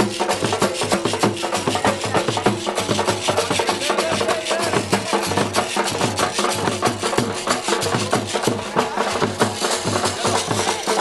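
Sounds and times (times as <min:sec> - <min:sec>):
music with fast percussion beat: 0:00.0 - 0:11.0.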